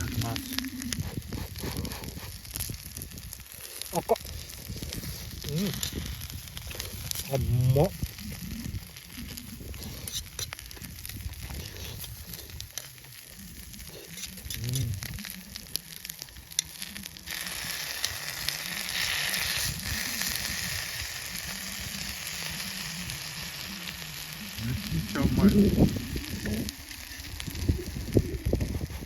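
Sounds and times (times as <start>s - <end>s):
campfire crackles: 0.0s - 29.0s
food sizzling in a frying pan: 0.0s - 29.0s.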